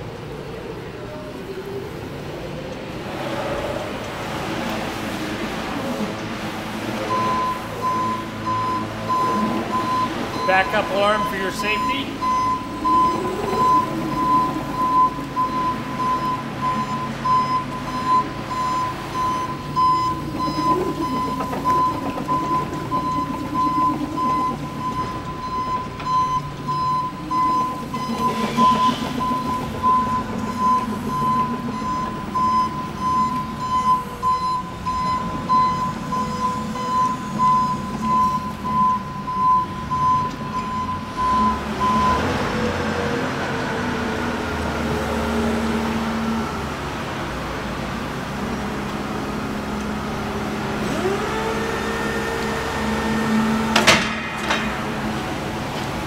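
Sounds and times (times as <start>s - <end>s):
forklift backup alarm beeping: 5.9s - 46.8s, 48.0s - 56.0s.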